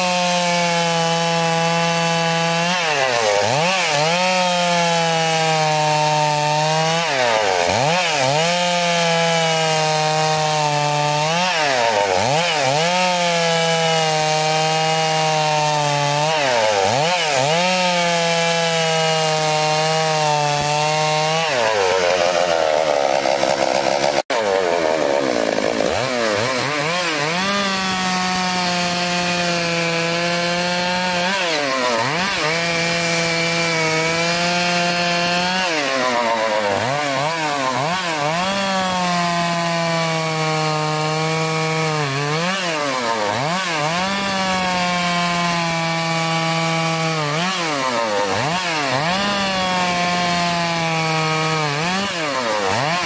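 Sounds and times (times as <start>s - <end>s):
chainsaw sawing through log: 0.0s - 53.0s.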